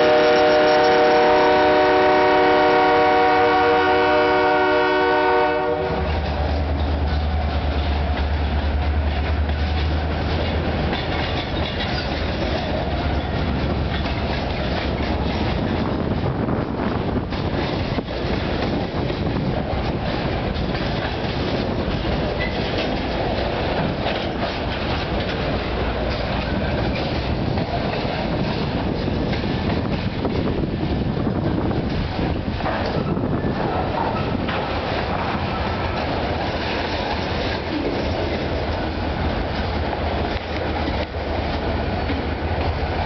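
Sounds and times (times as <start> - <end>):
train wheels rumbling on rails: 0.0 - 43.0
wheels clacking over track joints: 6.1 - 43.0.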